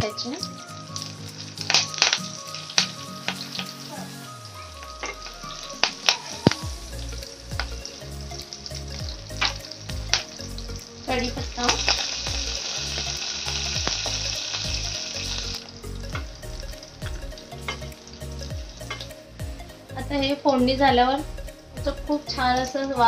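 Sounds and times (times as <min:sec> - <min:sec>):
spices sizzling in hot oil: 0:00.0 - 0:23.0
oil popping: 0:00.9 - 0:19.6.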